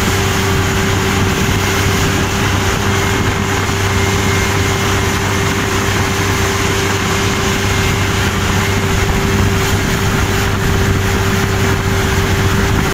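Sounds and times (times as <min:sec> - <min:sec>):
constant whine: 0:00.0 - 0:12.9
tractor diesel engine running: 0:00.0 - 0:12.9.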